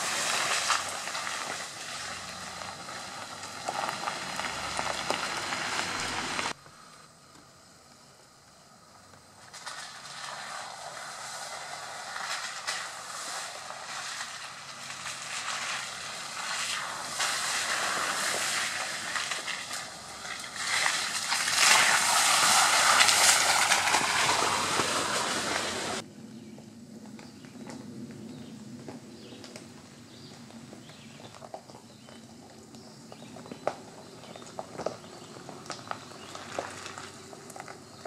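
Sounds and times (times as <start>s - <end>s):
tyres crunching over gravel and mud: 0.0s - 6.6s, 9.4s - 38.0s.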